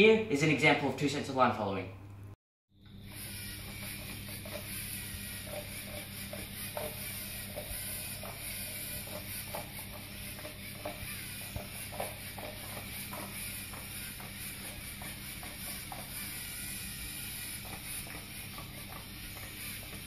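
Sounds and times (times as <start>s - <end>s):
short motor whines: 2.8s - 20.0s
robot motors and gears whirring: 3.0s - 20.0s.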